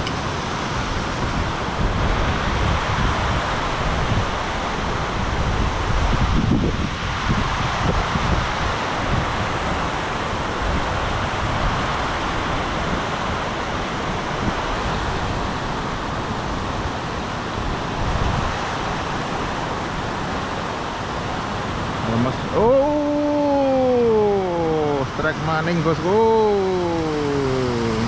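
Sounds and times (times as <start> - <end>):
wind buffeting microphone: 0.0 - 25.1.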